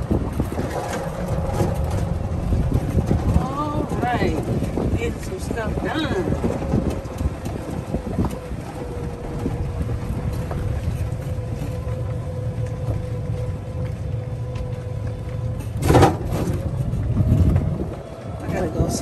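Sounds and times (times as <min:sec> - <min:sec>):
electric motor whine: 0:00.0 - 0:19.0
tyre and chassis rumble: 0:00.0 - 0:19.0.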